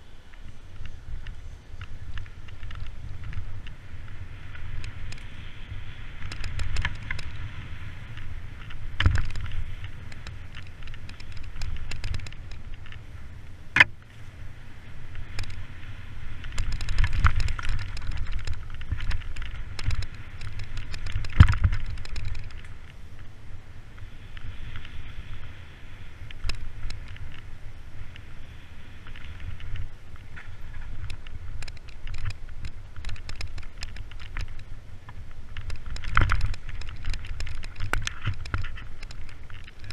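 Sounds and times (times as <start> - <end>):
bike rattling clicks: 0.0 - 39.9
bike tyres rumbling on dirt: 0.0 - 39.9
wind on microphone: 0.0 - 39.9.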